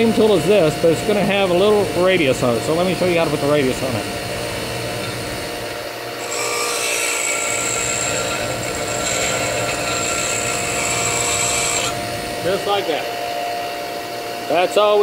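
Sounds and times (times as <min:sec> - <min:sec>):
bench grinder grinding steel: 0:00.0 - 0:13.2.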